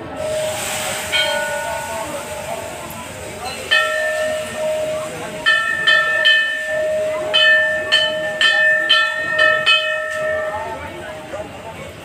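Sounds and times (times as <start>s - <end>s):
temple bells ringing: 0.0s - 11.8s.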